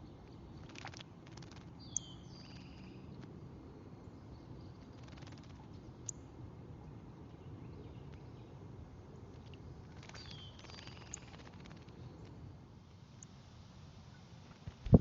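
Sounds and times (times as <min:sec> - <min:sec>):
wild birds chirping: 0:00.0 - 0:12.4
low outdoor rumble: 0:00.0 - 0:15.0.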